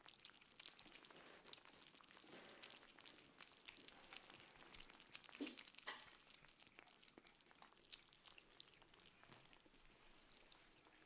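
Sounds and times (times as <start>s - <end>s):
kittens chewing wet food: 0.0s - 11.0s.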